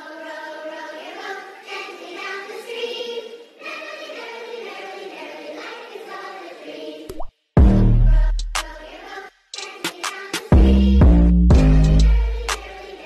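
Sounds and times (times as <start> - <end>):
voices singing together: 0.0 - 13.0.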